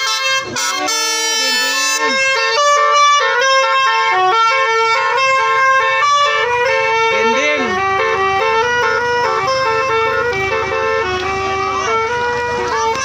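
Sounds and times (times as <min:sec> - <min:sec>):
bus horn playing a tune: 0:00.0 - 0:13.0.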